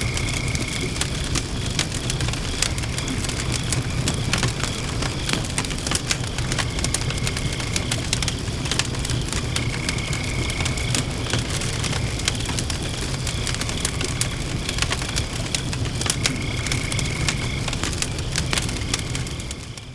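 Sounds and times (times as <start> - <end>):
frogs calling: 0.0 - 19.8
campfire crackling and popping: 0.0 - 19.9
crickets chirping: 0.0 - 19.9
low rumble of flames: 0.0 - 19.9.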